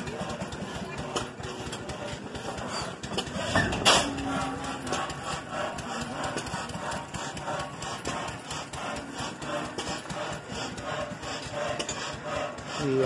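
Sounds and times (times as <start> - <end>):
old stationary engine running: 0.0 - 13.0
rapid irregular engine knocking: 0.0 - 13.0.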